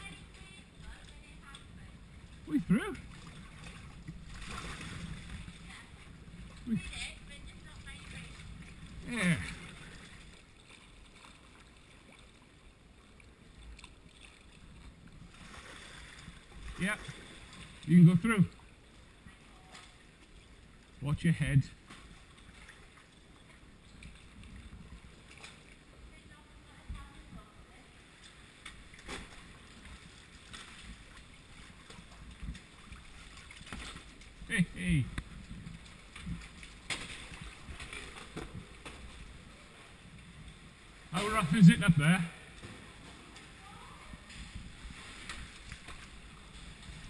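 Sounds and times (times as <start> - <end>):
calm sea lapping around kayak: 0.0 - 47.0
sloshing water: 0.0 - 47.0.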